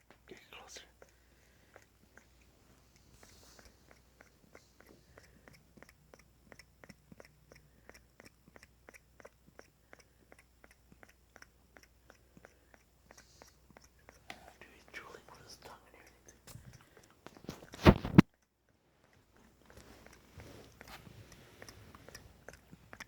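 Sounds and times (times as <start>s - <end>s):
puppy chewing clicks: 0.0s - 23.0s.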